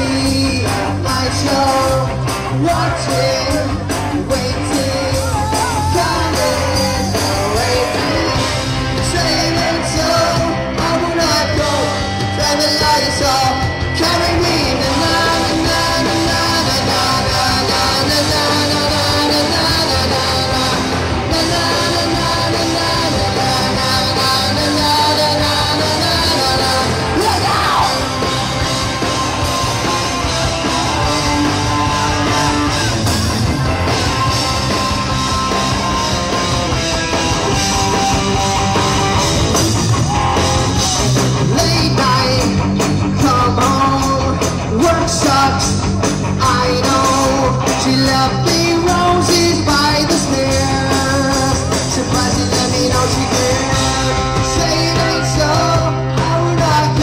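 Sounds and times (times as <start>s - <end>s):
electric guitars: 0.0s - 57.0s
lead singer singing: 0.0s - 57.0s
rock band playing: 0.0s - 57.0s.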